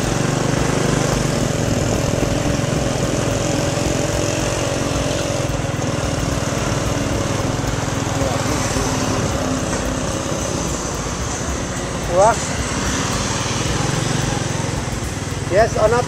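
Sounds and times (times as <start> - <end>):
road and wind noise: 0.0 - 16.0
small motorcycle engine running: 0.0 - 16.0.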